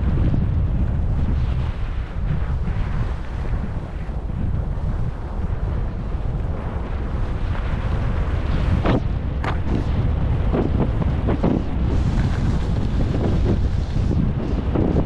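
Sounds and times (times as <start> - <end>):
skis scraping over packed snow: 0.0 - 15.0
steady low rumble: 0.0 - 15.0
wind buffeting microphone: 0.0 - 15.0.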